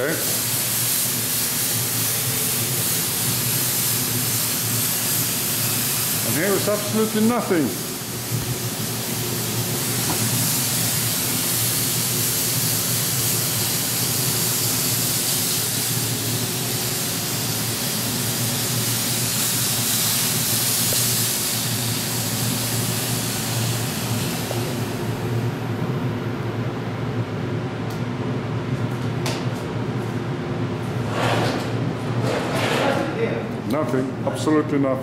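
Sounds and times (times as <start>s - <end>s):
ventilation fan hum: 0.0s - 35.0s.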